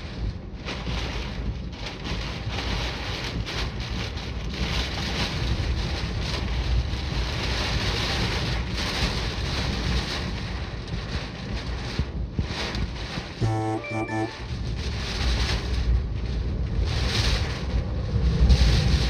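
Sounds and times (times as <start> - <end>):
rain: 0.0 - 13.4, 14.4 - 19.0.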